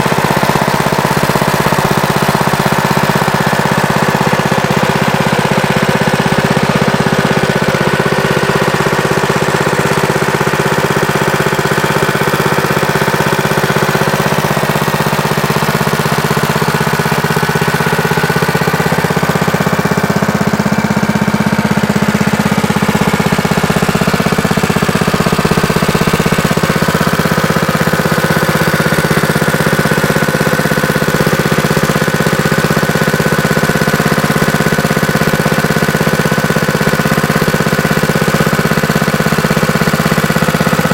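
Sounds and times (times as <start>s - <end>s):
mini bike engine running: 0.0s - 40.9s.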